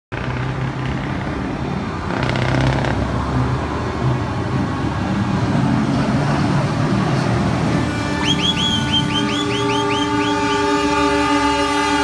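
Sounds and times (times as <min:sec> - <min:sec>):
heavy truck diesel engines: 0:00.1 - 0:12.0.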